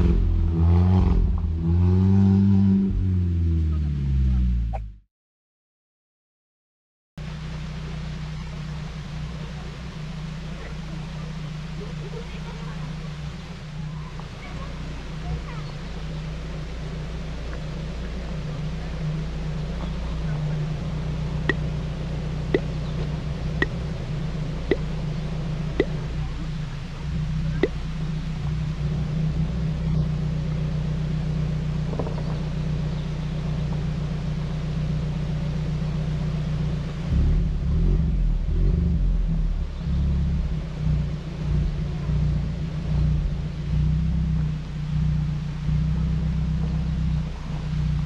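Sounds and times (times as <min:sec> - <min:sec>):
car engine running at low revs: 0:00.0 - 0:05.0, 0:07.2 - 0:48.0.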